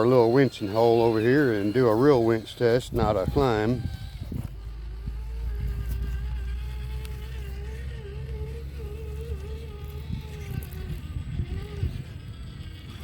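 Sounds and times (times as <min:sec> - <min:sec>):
toy car motor whine: 0:00.0 - 0:13.0.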